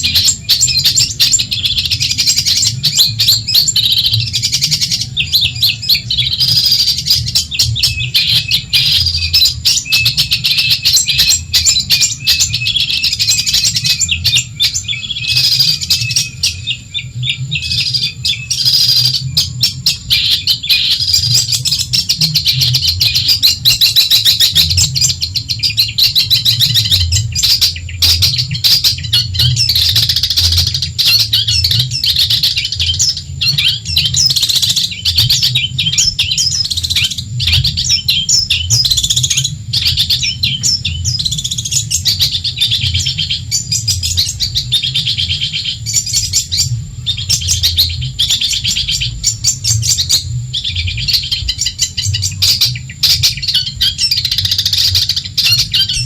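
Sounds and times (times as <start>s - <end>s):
bird singing scratchy trills: 0.0s - 56.0s.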